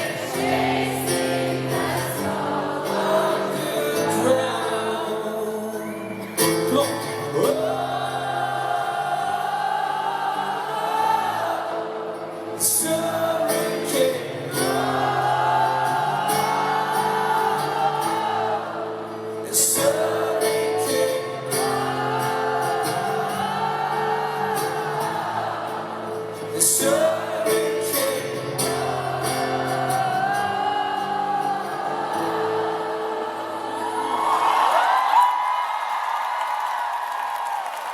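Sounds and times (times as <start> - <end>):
acoustic guitar chords: 0.0 - 34.3
voices singing wordless melody: 0.0 - 34.3.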